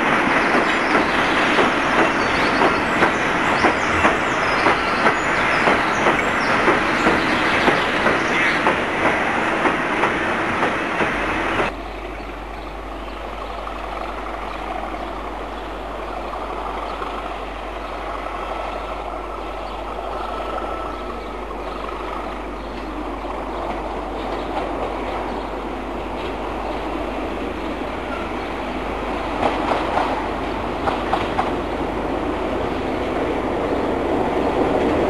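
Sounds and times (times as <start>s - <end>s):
diesel locomotive engine: 0.0s - 35.0s.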